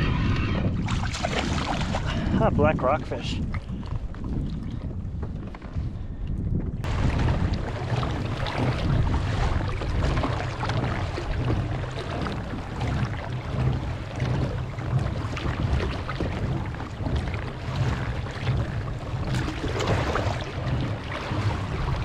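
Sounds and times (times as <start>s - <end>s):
water splashing against hull: 0.0s - 22.0s
wind buffeting microphone: 0.0s - 22.0s.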